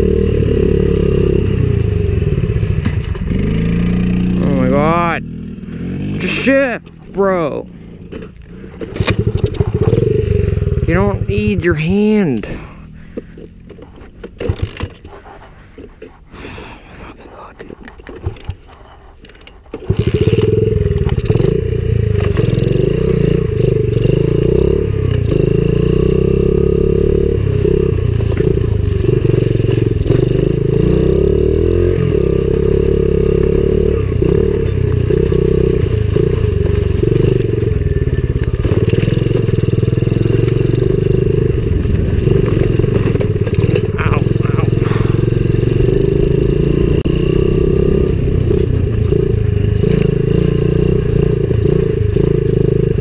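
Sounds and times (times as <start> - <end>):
motorbike engine running: 0.0 - 16.8, 18.1 - 53.0.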